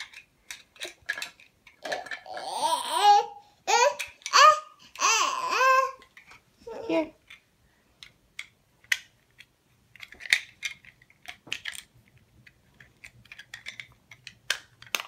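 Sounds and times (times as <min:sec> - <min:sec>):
toy pieces clicking and clacking: 0:00.0 - 0:15.0.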